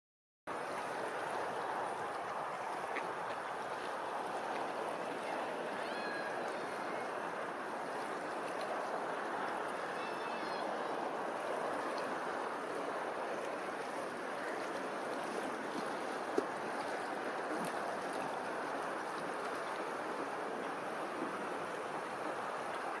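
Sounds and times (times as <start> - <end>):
water lapping and rippling: 0.5 - 23.0.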